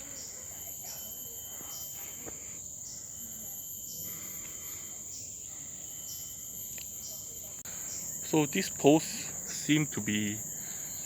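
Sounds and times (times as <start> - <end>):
insects high-pitched whine: 0.0 - 11.0.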